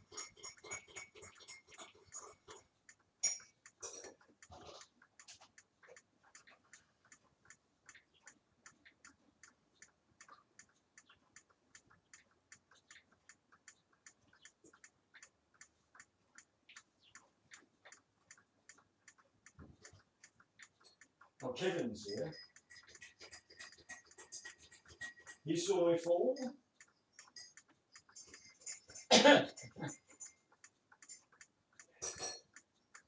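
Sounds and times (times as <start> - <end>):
wall clock ticking: 0.0 - 33.0.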